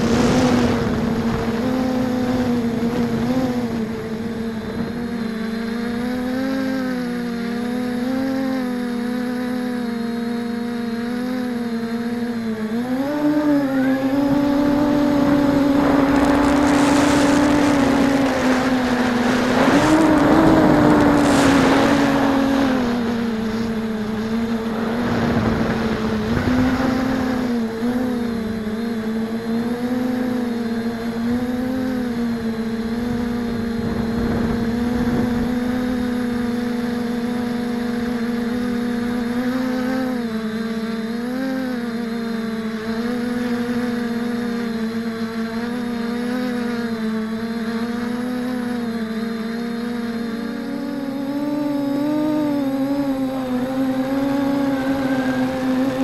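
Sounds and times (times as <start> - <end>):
broad rushing noise: 0.0 - 56.0
drone motors whining: 0.0 - 56.0.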